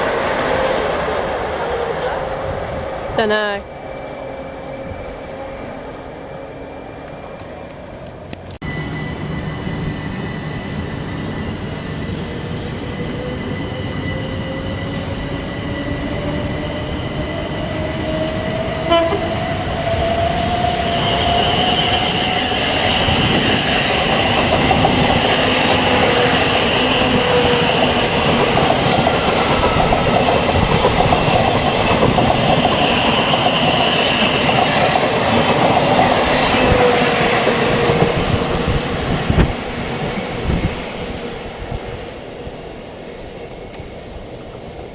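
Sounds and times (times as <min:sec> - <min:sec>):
train wheel and rail noise: 0:00.0 - 0:44.9.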